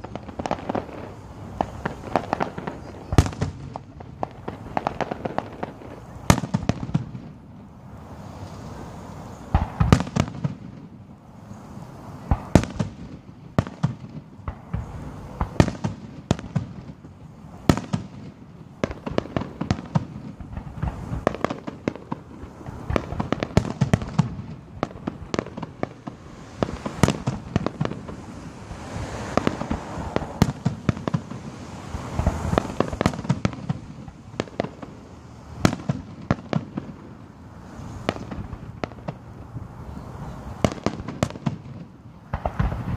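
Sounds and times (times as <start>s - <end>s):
fireworks bangs and pops: 0.0s - 42.9s.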